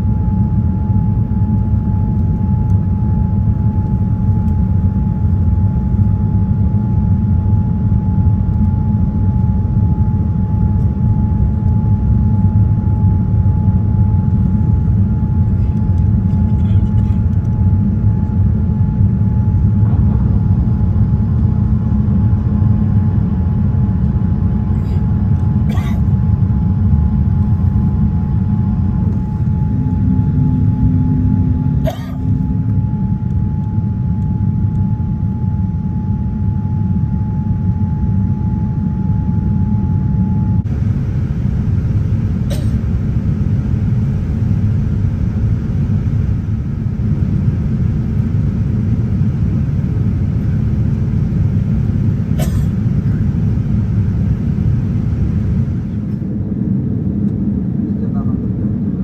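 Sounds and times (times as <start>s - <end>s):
airliner cabin rumble: 0.0s - 59.0s
faint steady whine: 0.0s - 59.0s.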